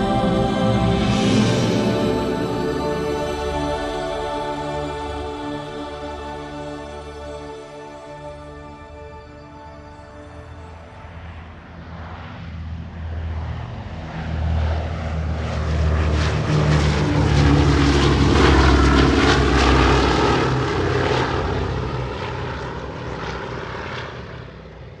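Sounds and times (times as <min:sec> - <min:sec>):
propeller airplane flying past: 0:00.0 - 0:06.7, 0:09.9 - 0:25.0.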